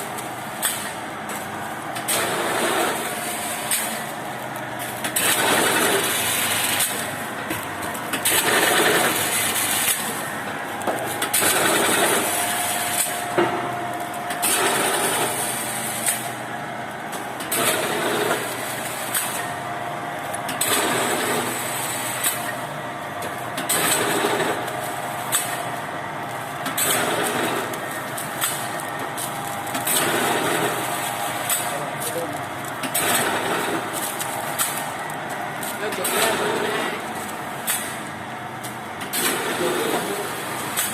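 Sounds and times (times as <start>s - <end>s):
machine clatter and hiss: 0.0s - 40.9s
steady machine hum: 0.0s - 40.9s.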